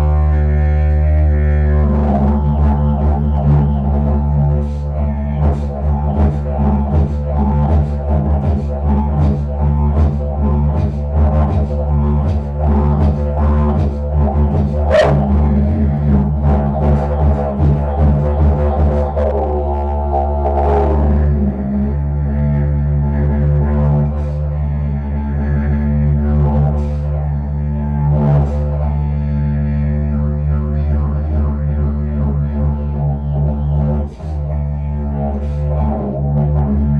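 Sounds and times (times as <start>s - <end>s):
low pulsing didgeridoo-like drone: 0.0s - 36.9s.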